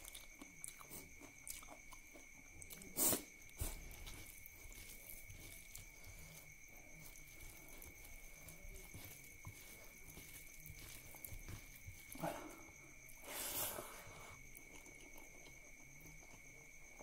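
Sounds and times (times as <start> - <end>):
fingers squishing rice: 0.0 - 17.0
soft chewing: 0.0 - 17.0.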